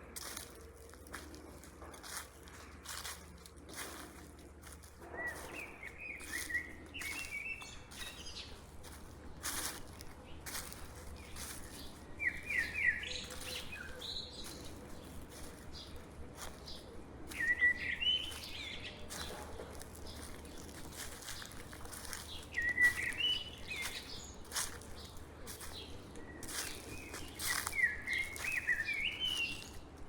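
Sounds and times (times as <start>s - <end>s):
footsteps on dry leaves: 0.0s - 30.0s
songbird singing: 0.0s - 30.0s.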